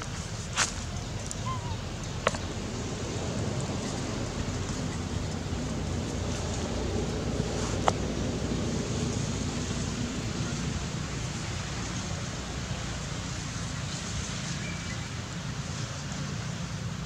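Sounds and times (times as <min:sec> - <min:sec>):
constant hiss: 0:00.0 - 0:17.0.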